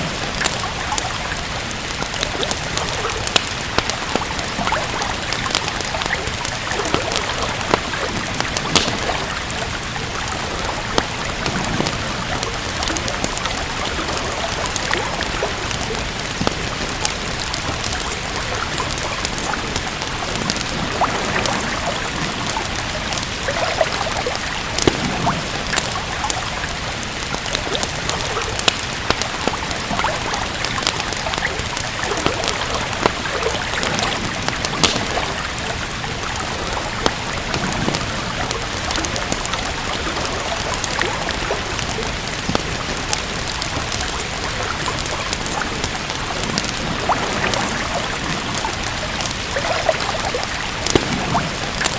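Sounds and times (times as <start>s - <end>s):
steady rain hiss: 0.0s - 51.9s
wood fire crackling: 0.0s - 51.9s.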